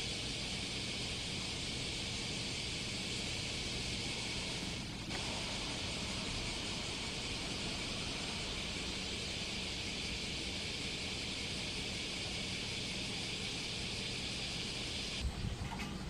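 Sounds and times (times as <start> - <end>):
high hiss: 0.0 - 15.4.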